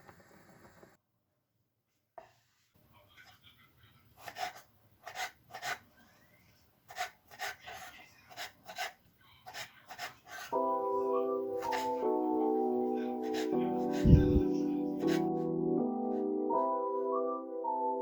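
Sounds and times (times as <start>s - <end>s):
faint room noise: 0.0s - 15.3s.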